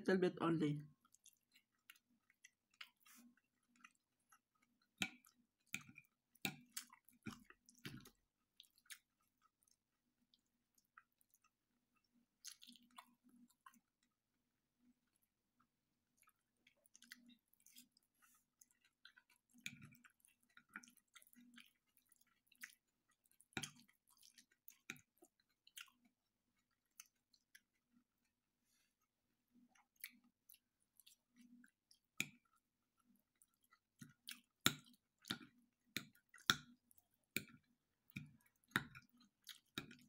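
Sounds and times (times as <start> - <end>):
person chewing: 1.1 - 9.8, 10.4 - 14.2, 16.2 - 28.0, 29.5 - 40.0.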